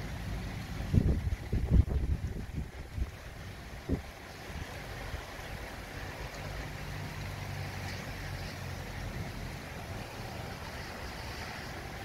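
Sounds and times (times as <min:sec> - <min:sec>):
heavy rain on a street: 0:00.0 - 0:12.0.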